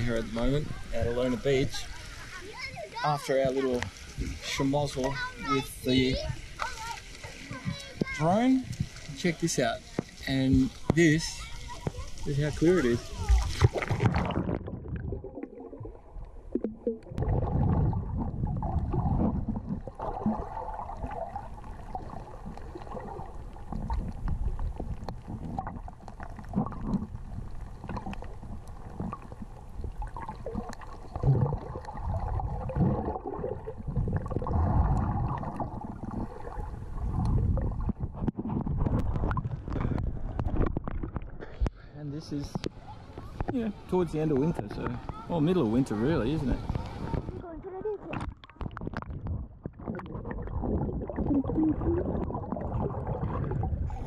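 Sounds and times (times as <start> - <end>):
underwater rumbling and gurgling: 0.0 - 9.2, 11.5 - 41.8, 46.0 - 54.0.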